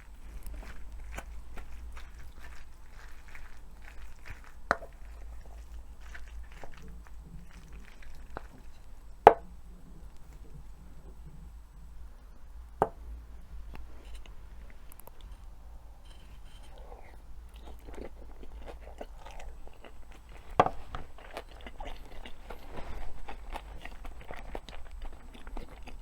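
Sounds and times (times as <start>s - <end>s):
soft chewing: 0.0s - 26.0s.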